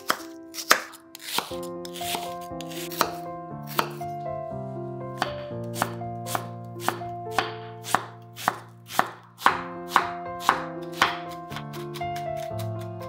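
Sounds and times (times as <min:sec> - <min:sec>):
knife chopping on wooden board: 0:00.0 - 0:04.1, 0:05.2 - 0:13.0
soft background music: 0:00.0 - 0:13.0.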